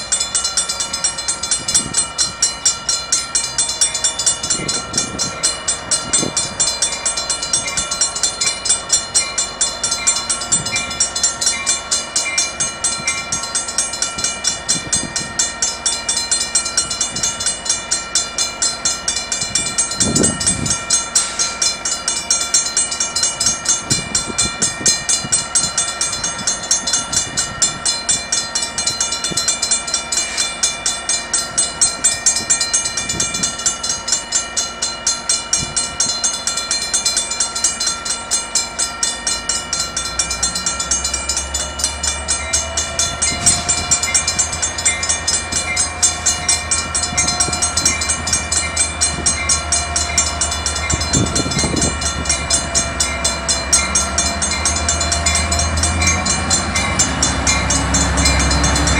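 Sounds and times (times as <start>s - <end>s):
locomotive engine rumble: 0.0s - 58.9s
steady tone: 0.0s - 58.9s
warning bell ringing rapidly: 0.0s - 58.9s.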